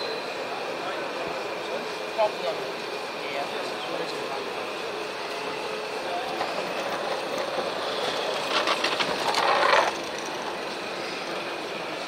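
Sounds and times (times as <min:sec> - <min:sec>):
exhibition hall background noise: 0:00.0 - 0:12.0.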